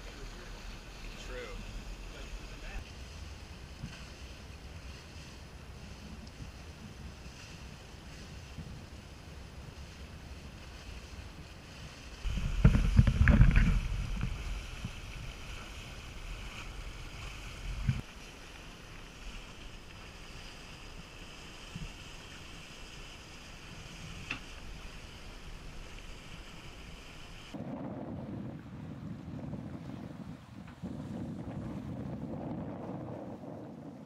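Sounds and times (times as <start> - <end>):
wind buffeting microphone: 0.0 - 18.1, 19.1 - 34.0
water rushing past hull: 0.0 - 34.0.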